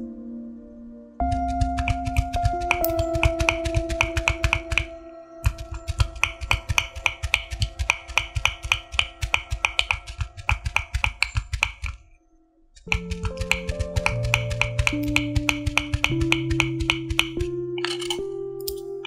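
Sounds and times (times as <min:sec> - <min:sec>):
soft background music: 0:00.0 - 0:19.0
cleaver chopping meat on wooden board: 0:01.3 - 0:12.0, 0:12.9 - 0:17.6.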